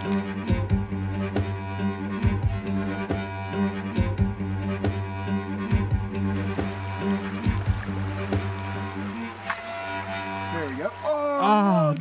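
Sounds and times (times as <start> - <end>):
held low music notes: 0.0 - 11.3.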